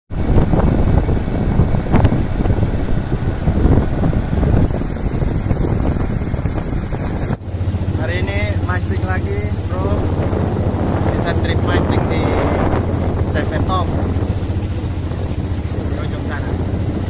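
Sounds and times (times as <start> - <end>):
boat motor rumble: 0.1 - 17.0
wind buffeting microphone: 0.1 - 17.0.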